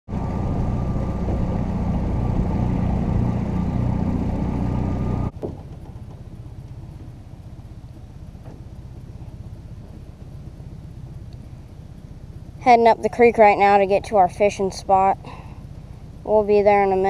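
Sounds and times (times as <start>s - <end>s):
outboard motor running: 0.1s - 17.0s
quiet pulsing motor: 0.1s - 17.0s.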